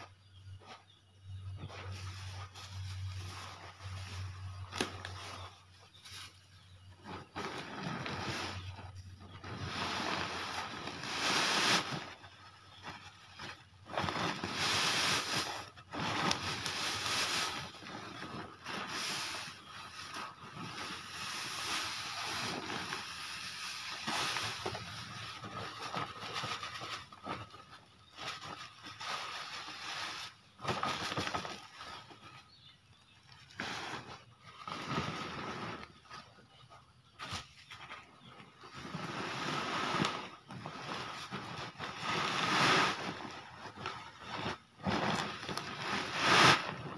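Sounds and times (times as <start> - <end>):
plastic sack rustling: 0.0 - 46.9
granules pouring onto tarp: 1.5 - 32.4, 33.3 - 36.1, 37.2 - 46.9.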